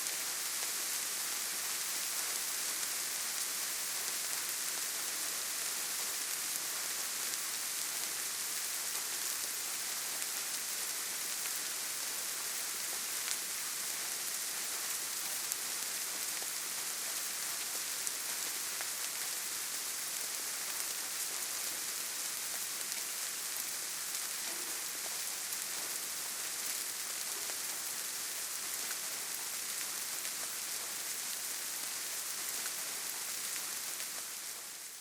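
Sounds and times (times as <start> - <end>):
gentle steady rain: 0.0 - 35.0.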